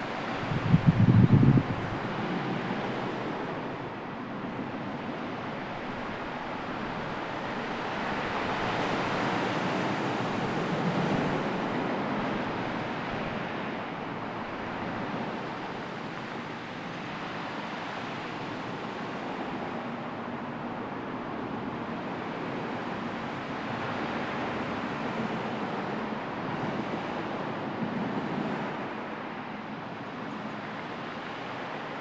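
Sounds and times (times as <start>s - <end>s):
sea surf: 0.0s - 32.0s
wind: 0.0s - 32.0s.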